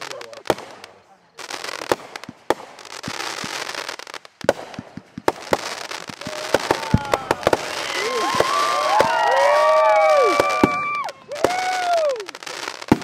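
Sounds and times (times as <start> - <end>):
crackling hiss: 0.0 - 13.0
fireworks banging: 0.0 - 13.0
whistling fireworks: 0.0 - 13.0.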